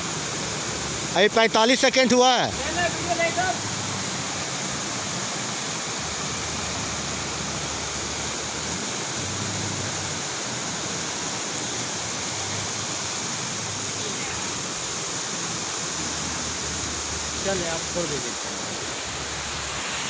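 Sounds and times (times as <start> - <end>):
water rushing over boulders: 0.0 - 20.0.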